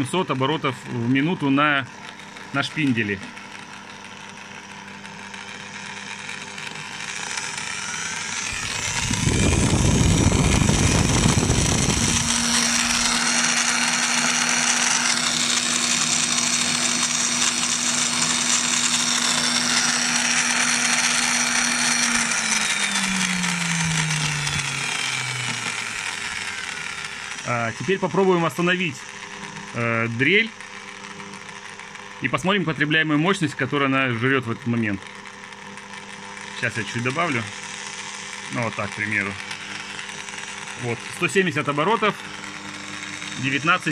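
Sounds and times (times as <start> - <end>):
electric drill motor whine: 0.0 - 43.9.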